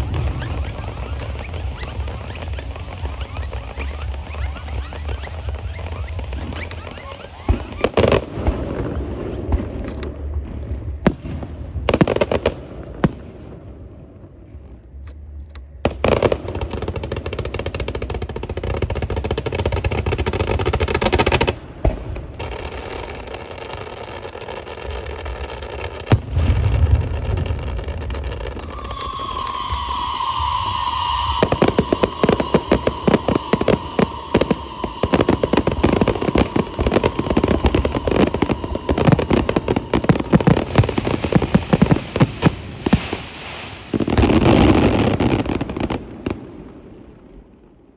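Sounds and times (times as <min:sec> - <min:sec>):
firecrackers banging and crackling: 0:00.0 - 0:13.5, 0:15.0 - 0:46.4.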